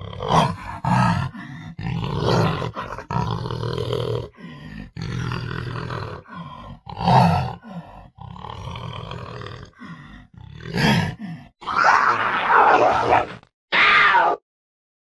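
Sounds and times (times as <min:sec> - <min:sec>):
panther growling: 0:00.0 - 0:14.4.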